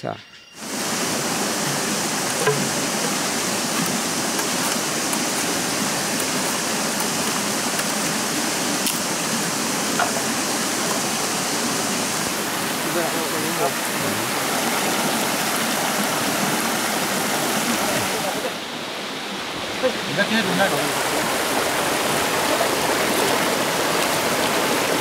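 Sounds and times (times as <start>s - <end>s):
stream rushing over stones: 0.6s - 25.0s.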